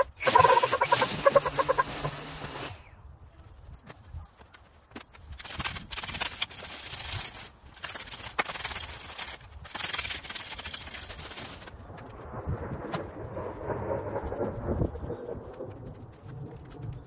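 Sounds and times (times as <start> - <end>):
rake scraping through grass and soil: 0.0 - 12.0, 13.0 - 17.0
rustling: 0.0 - 17.0.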